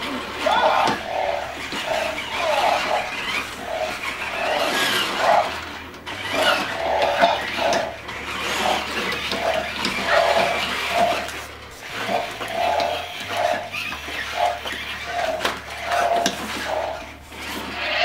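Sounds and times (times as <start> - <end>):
toy motors whirring: 0.0 - 18.0.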